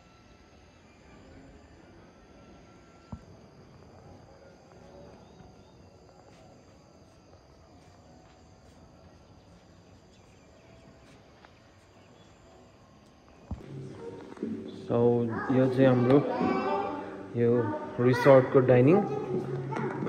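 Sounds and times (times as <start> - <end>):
faint chirps: 0.0 - 20.0.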